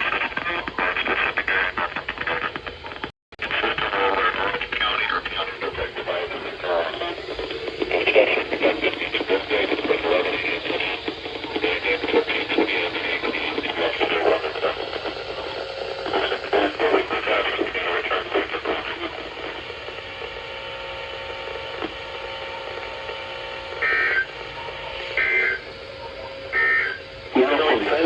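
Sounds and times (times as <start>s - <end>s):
garbled broadcast voice: 0.0s - 20.4s, 23.1s - 28.0s
radio static hiss: 0.0s - 28.0s.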